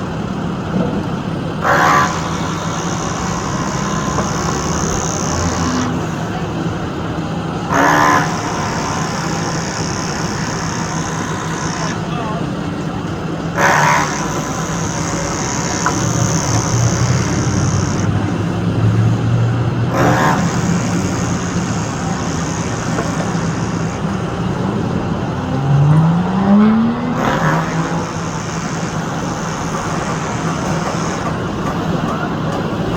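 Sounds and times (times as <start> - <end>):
construction machinery engine running: 0.0 - 32.9.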